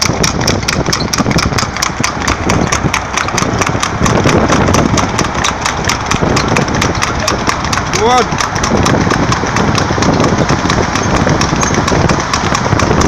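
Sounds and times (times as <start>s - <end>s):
car engine and road noise: 0.0s - 13.0s
horse hooves trotting on tarmac: 0.0s - 13.0s.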